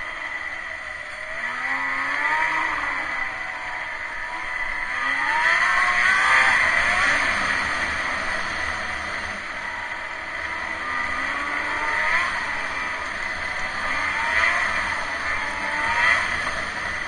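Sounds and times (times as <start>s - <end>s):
snowmobile engine revving: 1.2s - 17.0s.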